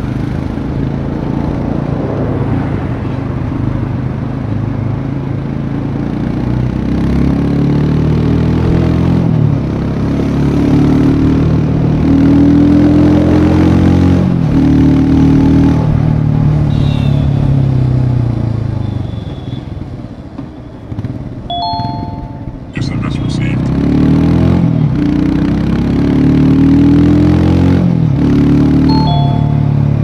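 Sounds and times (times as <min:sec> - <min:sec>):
motorcycle engine accelerating: 0:00.0 - 0:18.9, 0:19.8 - 0:30.0.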